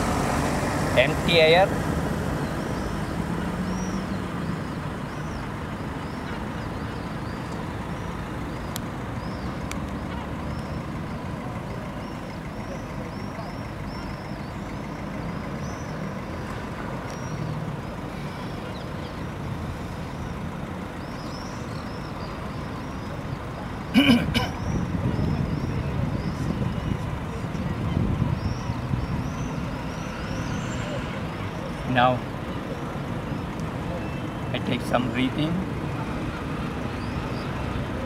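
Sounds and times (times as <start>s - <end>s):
city traffic rumble: 0.0s - 38.0s
small birds chirping: 0.0s - 38.0s.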